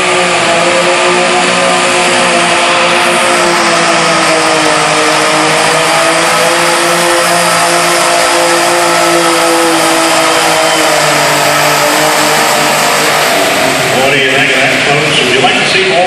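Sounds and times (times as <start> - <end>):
tractor engine running flat out: 0.0 - 16.0.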